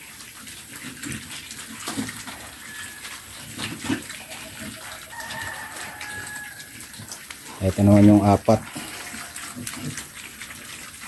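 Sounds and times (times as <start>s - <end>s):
pigs chewing and slurping: 0.0s - 11.0s.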